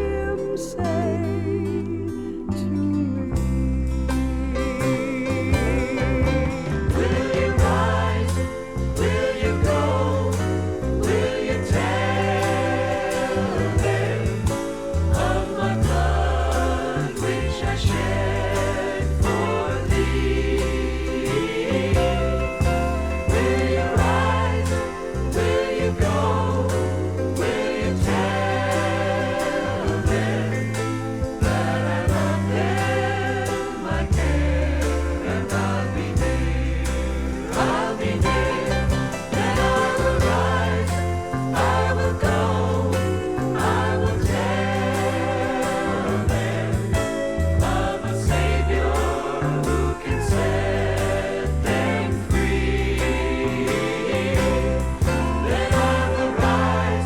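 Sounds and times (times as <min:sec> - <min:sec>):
choir singing gospel with band: 0:00.0 - 0:57.0.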